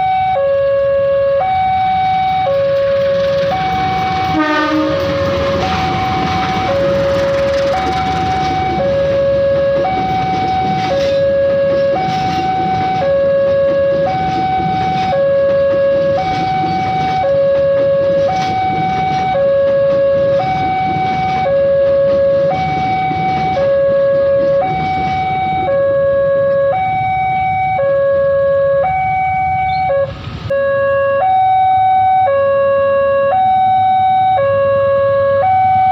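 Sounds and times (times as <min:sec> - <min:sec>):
two-tone level crossing siren: 0:00.0 - 0:35.9.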